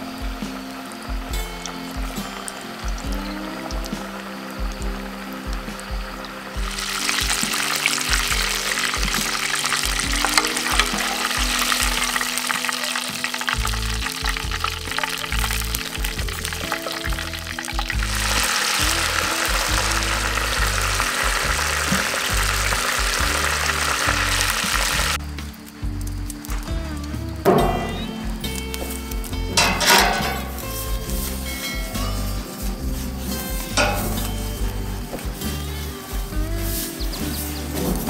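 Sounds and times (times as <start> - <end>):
food deep-frying in oil: 0.0 - 37.8.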